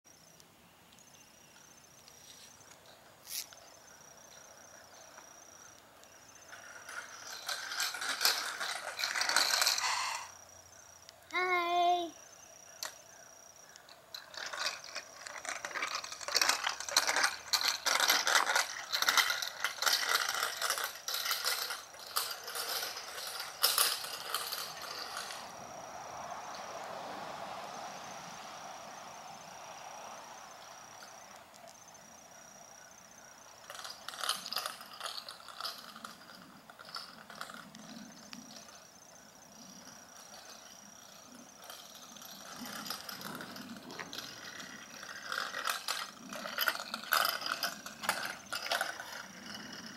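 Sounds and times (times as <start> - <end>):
bicycle clicking and rattling: 1.6 - 11.8, 12.6 - 26.7, 30.0 - 49.9.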